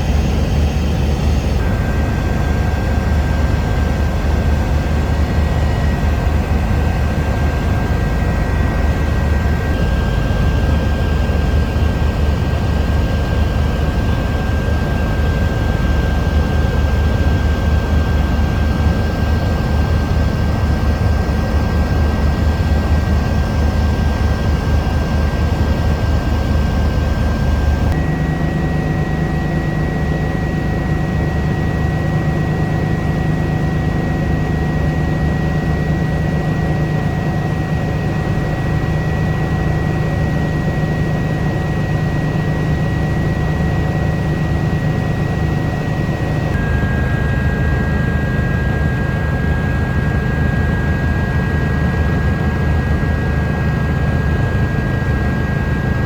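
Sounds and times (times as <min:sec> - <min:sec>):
helicopter rotor and turbine rumble: 0:00.0 - 0:56.0
high turbine whine: 0:00.0 - 0:56.0.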